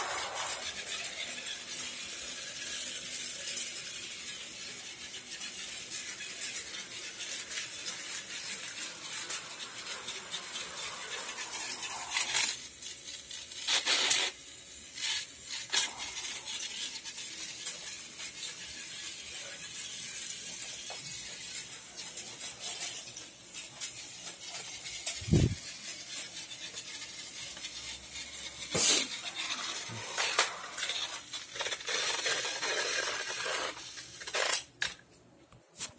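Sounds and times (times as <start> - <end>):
toy train motors whirring: 0.0 - 35.0.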